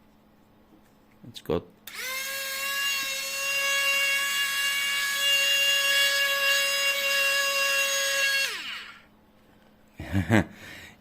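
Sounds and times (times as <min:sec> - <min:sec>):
electric fan whining: 0:01.8 - 0:10.9.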